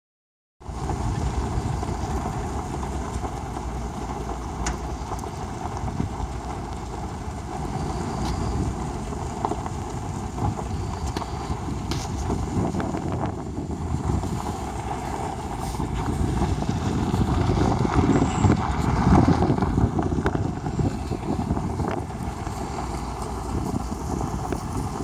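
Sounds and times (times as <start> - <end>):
vehicle rumbling on gravel: 0.6 - 25.0
wind noise on microphone: 0.6 - 25.0.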